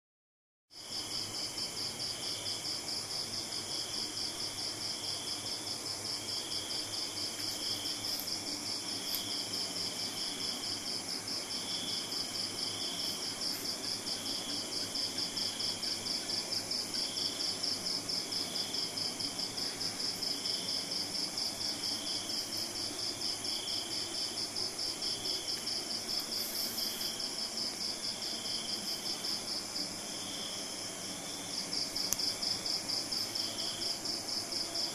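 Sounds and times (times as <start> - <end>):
insect fast trill: 0.8 - 34.9.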